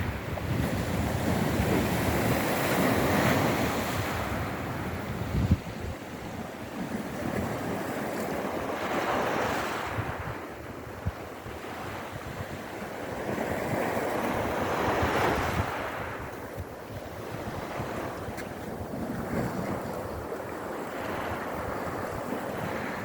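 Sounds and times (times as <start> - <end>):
sea waves breaking on shore: 0.0 - 23.0
wind buffeting microphone: 0.0 - 23.0.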